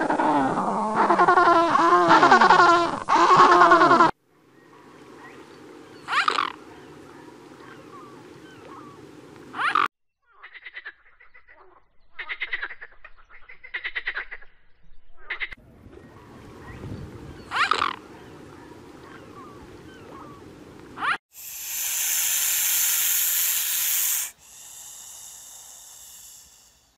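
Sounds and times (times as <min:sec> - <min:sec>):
water bird calls: 0:00.0 - 0:11.4, 0:15.2 - 0:26.7
outdoor background noise: 0:00.0 - 0:26.9.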